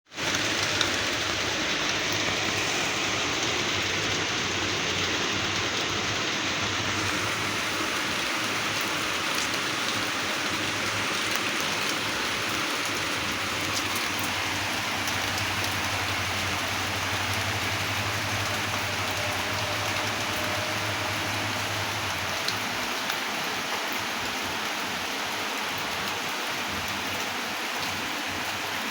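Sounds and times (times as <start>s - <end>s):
steady rain falling: 0.1s - 28.9s.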